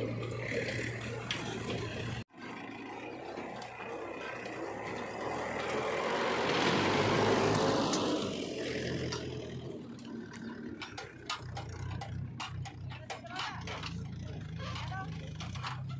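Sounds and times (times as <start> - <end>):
heavy diesel machinery engine: 0.0 - 15.9.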